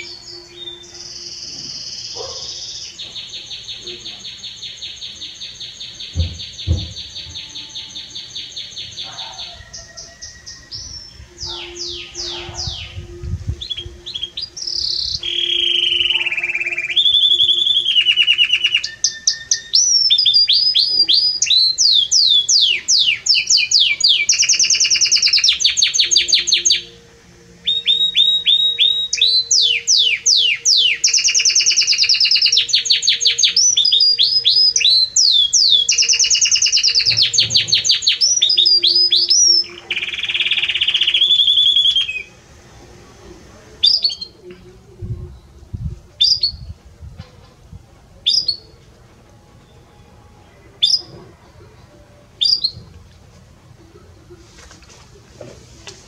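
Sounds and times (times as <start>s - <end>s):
canary singing trills: 0.0s - 42.7s, 43.5s - 46.8s, 48.2s - 48.8s, 49.6s - 52.9s.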